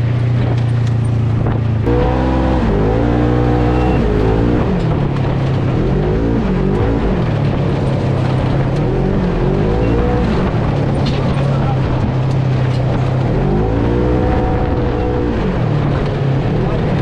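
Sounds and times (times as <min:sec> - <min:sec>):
vehicle engine drone revving: 0:00.0 - 0:17.0.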